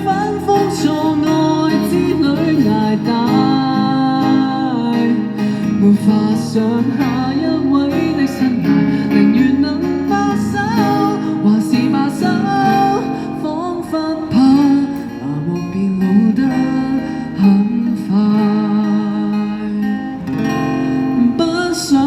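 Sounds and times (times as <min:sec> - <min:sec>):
person singing pop ballad: 0:00.0 - 0:20.2, 0:21.1 - 0:22.0
strummed acoustic guitar: 0:00.0 - 0:22.0.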